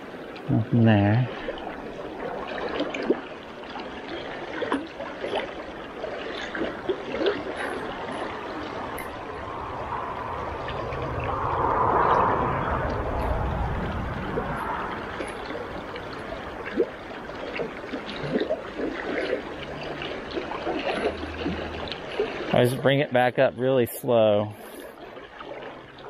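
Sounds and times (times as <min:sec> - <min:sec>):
river rushing and gurgling: 0:00.0 - 0:26.0.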